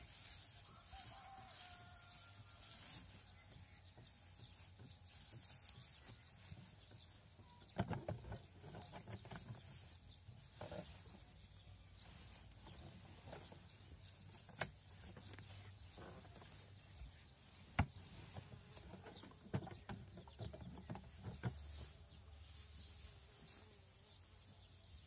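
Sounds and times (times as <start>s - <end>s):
hay rustling: 0.0s - 7.5s, 8.6s - 19.4s, 20.8s - 25.0s.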